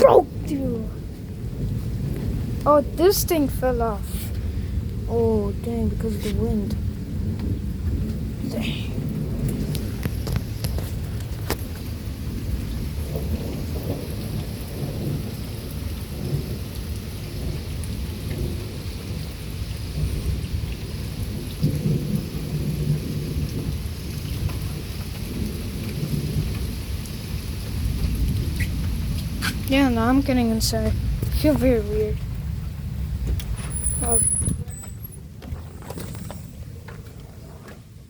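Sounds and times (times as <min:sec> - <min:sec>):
strong wind and rain rumble: 0:00.0 - 0:38.0.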